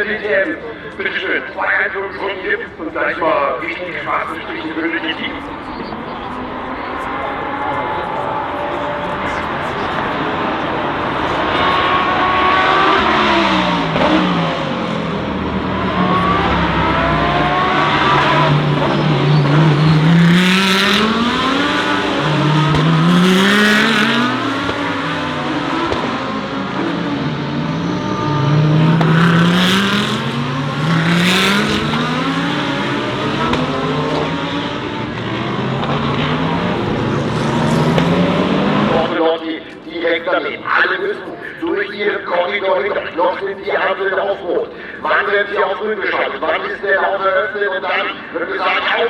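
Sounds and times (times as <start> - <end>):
race cars accelerating and passing: 0.0 - 39.9.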